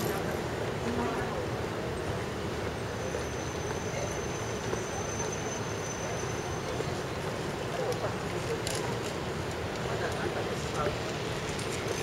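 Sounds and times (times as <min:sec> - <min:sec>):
low traffic hum: 0:00.0 - 0:12.0.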